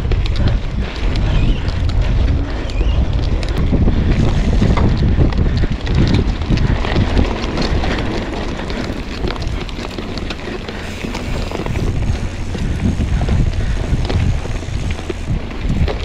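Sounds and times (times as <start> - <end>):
bike clicks and rattles: 0.0 - 16.0
bike tyres rumbling on dirt: 0.0 - 16.0
wind buffeting microphone: 0.0 - 16.0.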